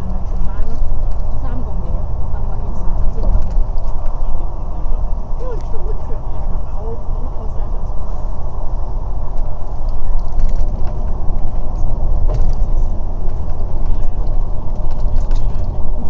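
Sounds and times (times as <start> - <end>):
bus engine and road rumble: 0.0 - 16.0
rattles of bus fittings: 0.0 - 16.0.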